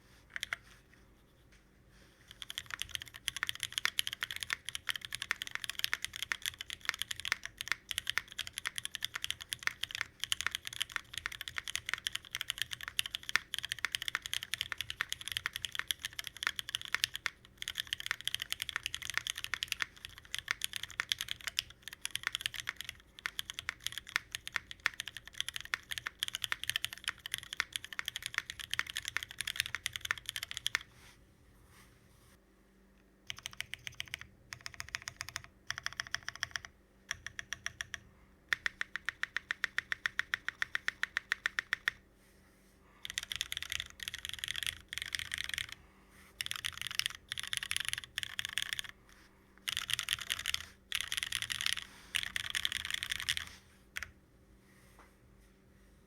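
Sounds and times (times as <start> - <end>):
mechanical keyboard typing: 2.3 - 30.9, 33.3 - 42.0, 43.0 - 45.8, 46.4 - 49.0, 49.6 - 54.1.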